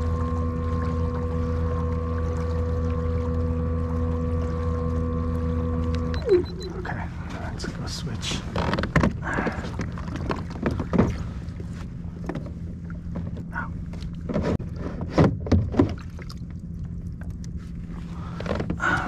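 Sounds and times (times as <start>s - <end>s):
wind and water rumble: 0.0s - 19.0s.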